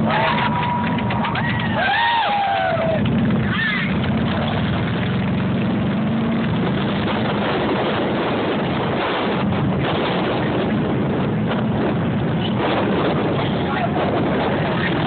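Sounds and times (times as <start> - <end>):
motorcycle engines passing: 0.0 - 15.0
wind noise on microphone: 0.0 - 15.0.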